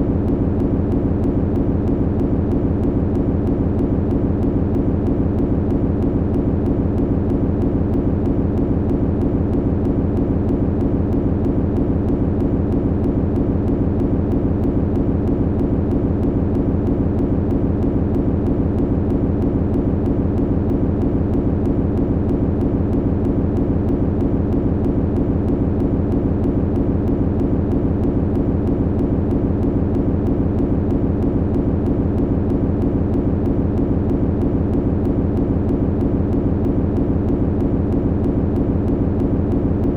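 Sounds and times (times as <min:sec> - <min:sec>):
low machinery hum: 0:00.0 - 0:39.9.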